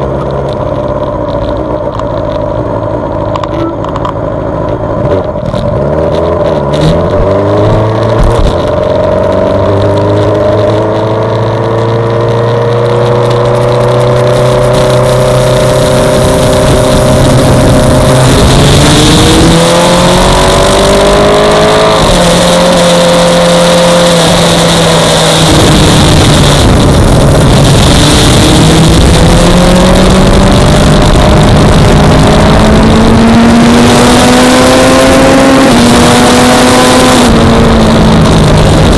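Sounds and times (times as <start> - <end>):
motorcycle engine revving: 0.0 - 38.9
wind rushing: 6.7 - 38.9.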